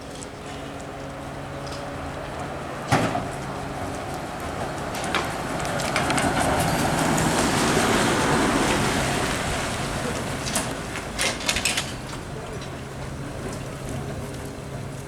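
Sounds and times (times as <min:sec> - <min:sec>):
electric vehicle rumble: 0:00.0 - 0:15.0.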